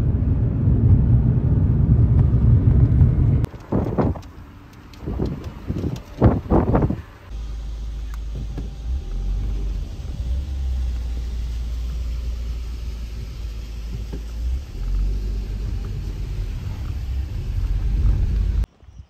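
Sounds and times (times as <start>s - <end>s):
car cabin low rumble: 0.0s - 18.7s.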